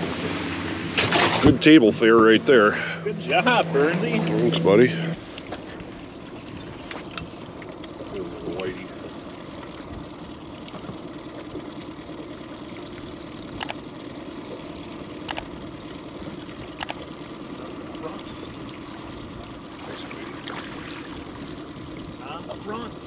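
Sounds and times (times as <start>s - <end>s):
water around a boat: 0.0s - 23.0s.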